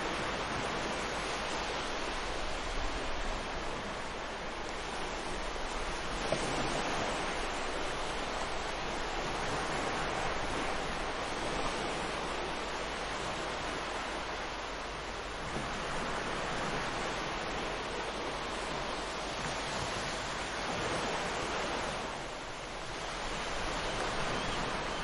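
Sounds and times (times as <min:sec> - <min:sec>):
ocean waves washing in: 0:00.0 - 0:25.0.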